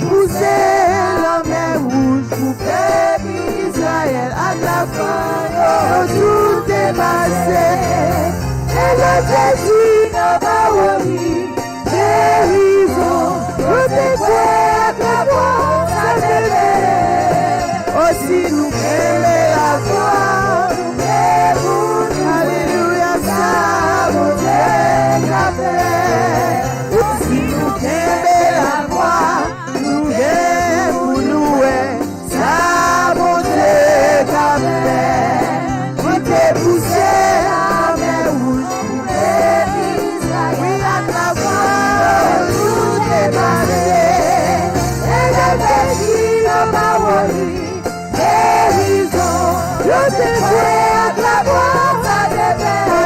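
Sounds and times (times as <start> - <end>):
band with bass line: 0.0 - 53.0
congregation singing gospel: 0.0 - 53.0.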